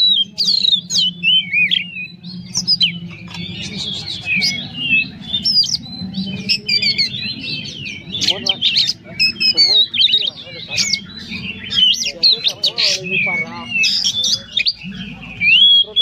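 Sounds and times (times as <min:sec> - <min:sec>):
magpie-robin singing: 0:00.0 - 0:16.0.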